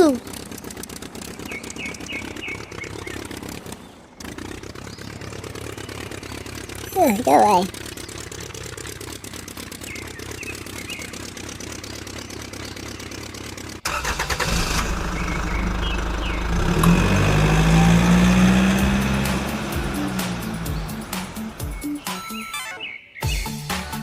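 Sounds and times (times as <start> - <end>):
low engine hum: 0.0 - 6.9, 7.7 - 22.1.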